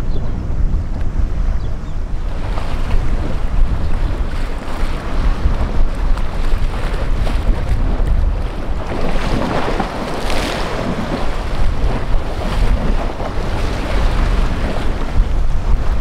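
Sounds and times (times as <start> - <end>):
water and waves: 0.0 - 16.0
wind buffeting microphone: 0.0 - 16.0.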